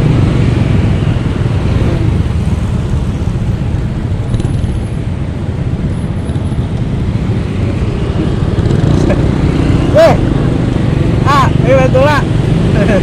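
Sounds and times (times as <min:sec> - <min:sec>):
road and traffic rumble: 0:00.0 - 0:13.0.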